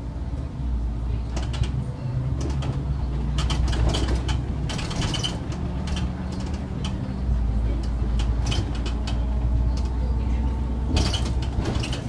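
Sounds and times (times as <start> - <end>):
bus engine hum: 0.0 - 12.0.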